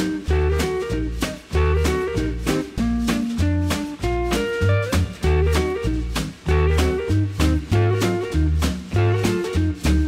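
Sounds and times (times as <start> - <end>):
upbeat music with bass and drums: 0.0 - 10.0.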